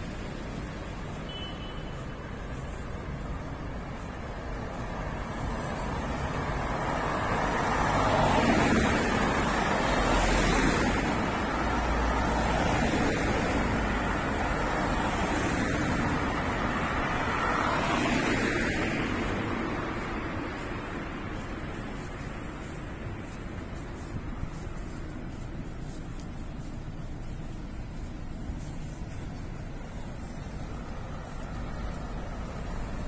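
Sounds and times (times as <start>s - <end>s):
cars passing on street: 0.0s - 33.0s.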